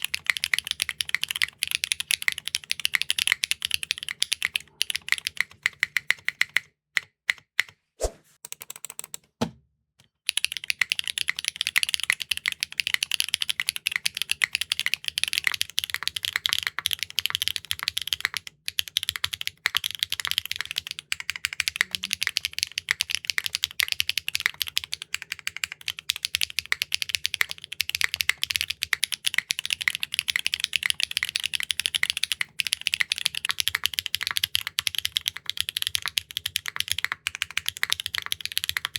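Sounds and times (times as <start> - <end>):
mechanical keyboard typing: 0.0 - 6.7, 8.5 - 9.4, 10.3 - 38.9.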